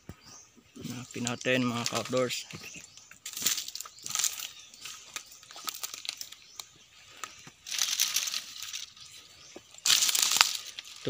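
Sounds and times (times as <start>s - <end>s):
dry palm fronds rustling: 0.8s - 11.0s.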